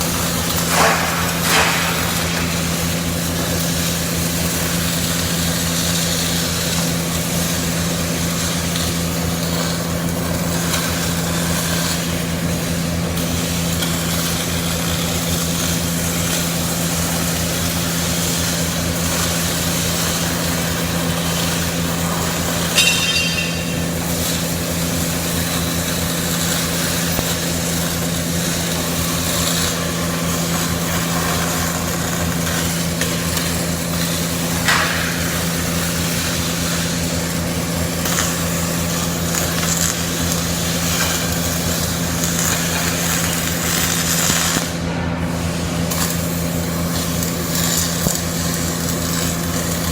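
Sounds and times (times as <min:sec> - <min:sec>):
low electrical hum: 0:00.0 - 0:08.9, 0:09.5 - 0:49.8
arc welding noise: 0:00.0 - 0:49.9.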